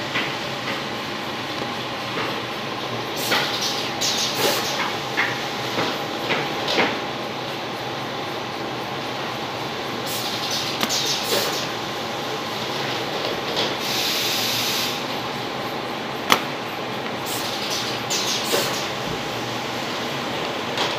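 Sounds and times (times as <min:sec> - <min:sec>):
electric fans: 0:00.0 - 0:20.9
paper-gluing machine running: 0:00.0 - 0:20.9.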